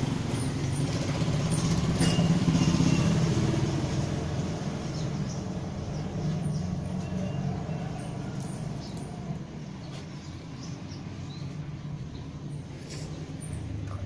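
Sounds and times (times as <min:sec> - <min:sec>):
engine rumbling: 0:00.0 - 0:14.0.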